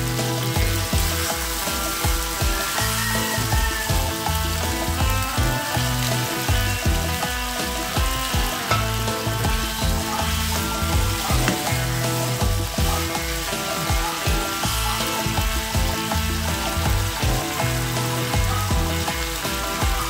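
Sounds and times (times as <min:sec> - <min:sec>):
background music: 0:00.0 - 0:20.0
food sizzling in a wok: 0:00.0 - 0:20.0.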